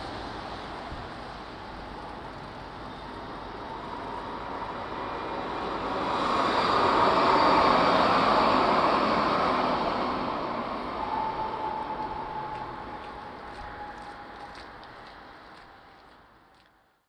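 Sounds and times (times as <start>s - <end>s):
tram rolling: 0.0s - 16.9s
road traffic: 0.0s - 17.0s.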